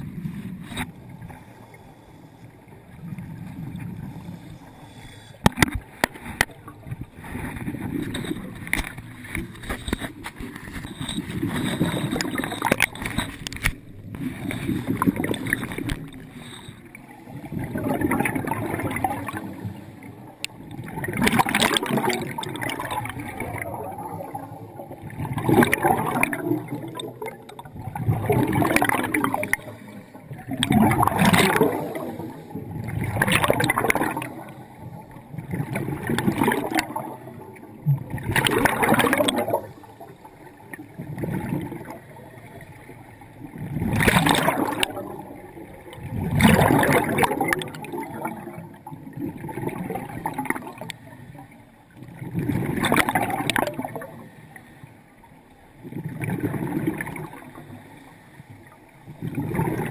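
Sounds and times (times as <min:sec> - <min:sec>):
exhaled air bubbling underwater: 0:00.0 - 0:59.9.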